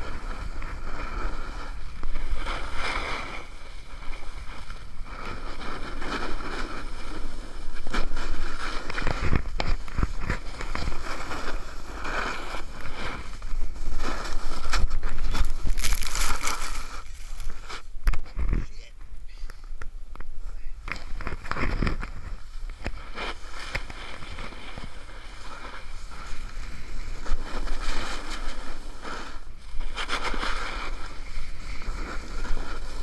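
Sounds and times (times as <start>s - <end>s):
rider falling in snow: 0.0s - 18.6s, 20.9s - 33.0s
snowboard scraping over snow: 0.0s - 18.6s, 20.4s - 33.0s
wind on microphone: 0.0s - 33.0s.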